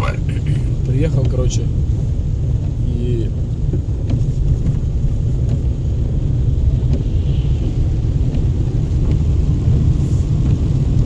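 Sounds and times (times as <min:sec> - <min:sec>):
car road rumble: 0:00.0 - 0:11.0.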